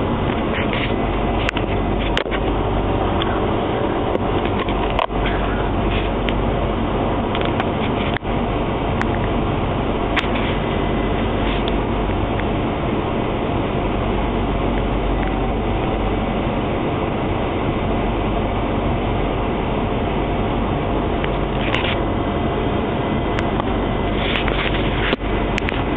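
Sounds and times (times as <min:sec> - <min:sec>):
train rumbling inside carriage: 0:00.0 - 0:25.9.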